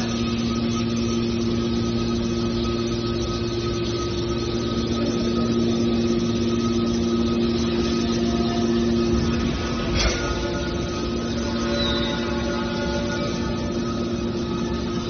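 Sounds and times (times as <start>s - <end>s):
hydraulic pump motor humming: 0.0s - 15.0s.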